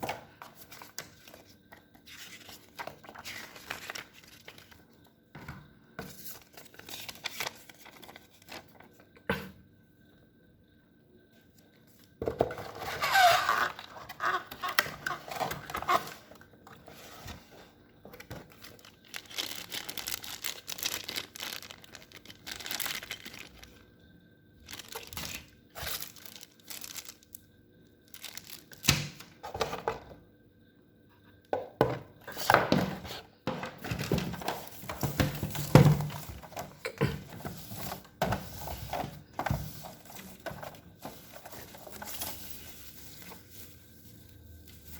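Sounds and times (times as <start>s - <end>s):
packaging crinkling and rustling: 0.5s - 5.0s, 6.1s - 9.0s, 12.6s - 23.9s, 24.6s - 27.4s, 28.1s - 30.0s, 32.3s - 44.9s.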